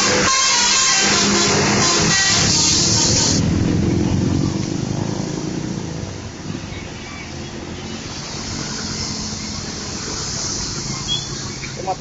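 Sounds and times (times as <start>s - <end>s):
bus driving past: 1.1s - 12.0s.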